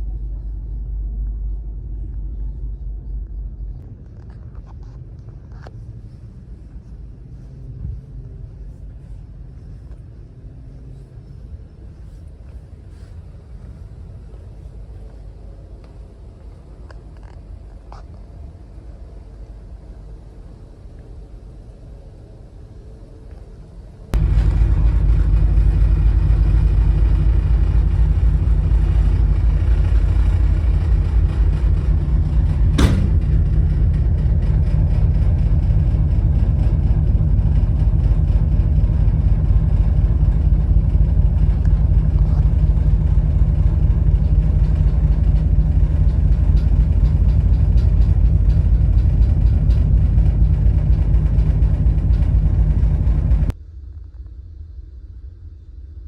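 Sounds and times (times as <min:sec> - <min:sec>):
ferry low rumble: 0:00.0 - 0:56.0.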